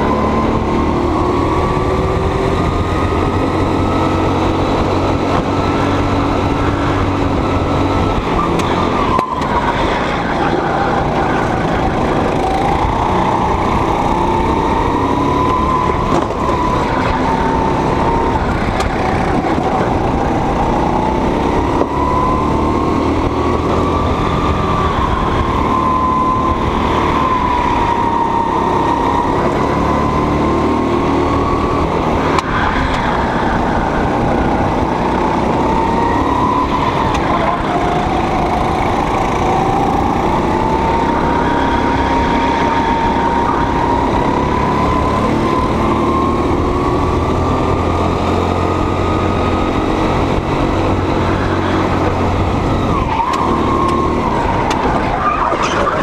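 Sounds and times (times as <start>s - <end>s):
go-kart engine running: 0.0s - 56.0s.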